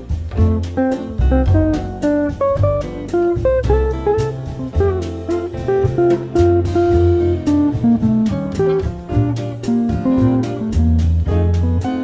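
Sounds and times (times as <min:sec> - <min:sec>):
plucked guitar melody: 0:00.0 - 0:12.0
steady bass line: 0:00.0 - 0:12.0.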